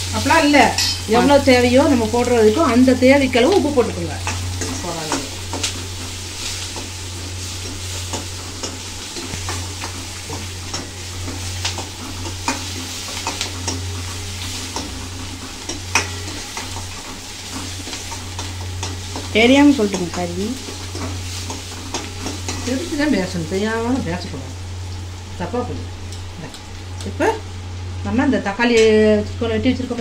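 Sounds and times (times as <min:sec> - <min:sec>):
vegetables sizzling in hot oil: 0:00.0 - 0:30.0.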